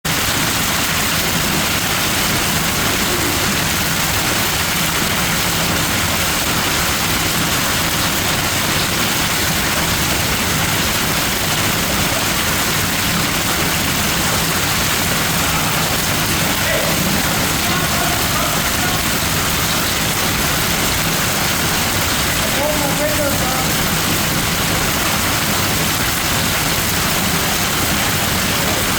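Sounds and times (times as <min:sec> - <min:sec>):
hail and heavy rain pounding: 0:00.1 - 0:28.9.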